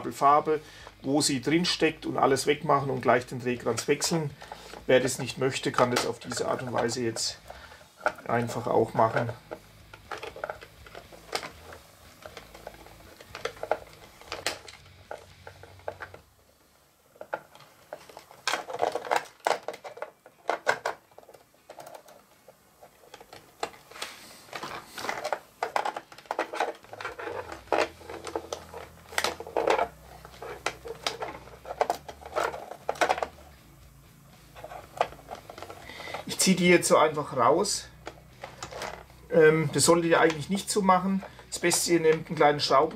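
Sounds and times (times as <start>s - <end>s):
plastic parts clicking and rustling: 0.1s - 42.9s.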